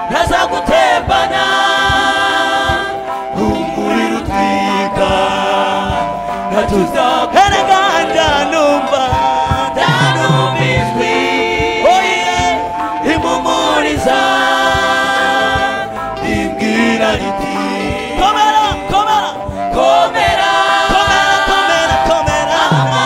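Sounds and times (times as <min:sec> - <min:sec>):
steady musical accompaniment: 0:00.0 - 0:23.0
voices singing gospel: 0:00.0 - 0:23.0.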